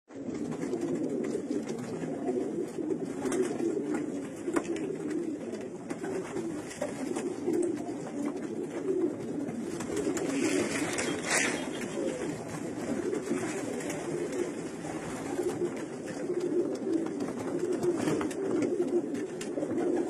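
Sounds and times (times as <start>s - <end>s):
pigeons cooing: 0.1s - 20.0s.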